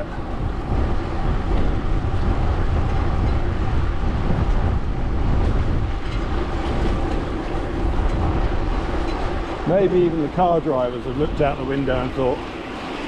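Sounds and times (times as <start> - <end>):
bicycle tyres rolling on road: 0.0 - 13.0
wind buffeting microphone: 0.0 - 13.0.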